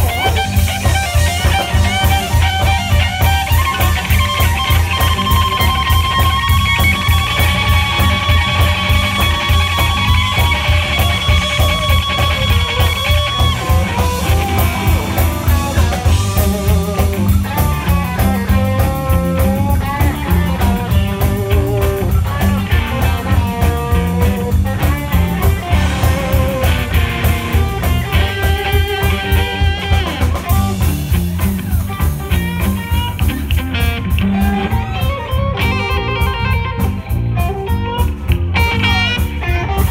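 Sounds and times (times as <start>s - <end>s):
blues-rock band playing: 0.0s - 39.9s
lead guitar soloing: 0.0s - 39.9s.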